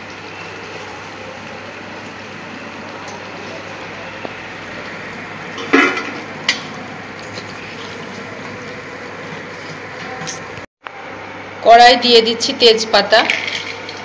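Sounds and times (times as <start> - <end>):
food frying in hot oil: 0.0 - 10.6, 12.9 - 14.0.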